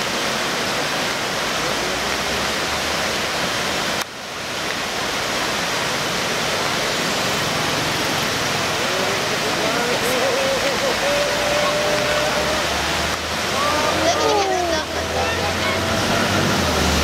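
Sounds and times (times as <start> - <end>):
river rapids rushing over rocks: 0.0 - 17.0.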